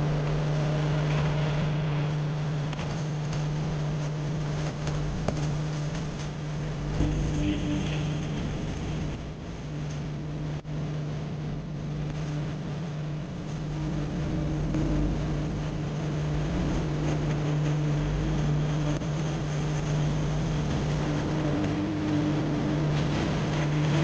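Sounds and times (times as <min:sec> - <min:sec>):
car engine droning: 0:00.0 - 0:24.0
road rumble: 0:00.0 - 0:24.0.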